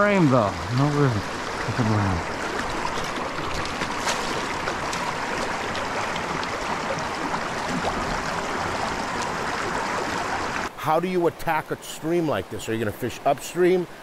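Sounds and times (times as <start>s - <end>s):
creek water running over stones: 0.0s - 14.0s.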